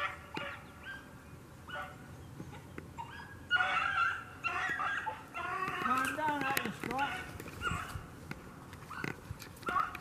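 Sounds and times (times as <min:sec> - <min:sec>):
dogs baying: 0:00.0 - 0:06.2, 0:07.0 - 0:08.1, 0:08.8 - 0:10.0.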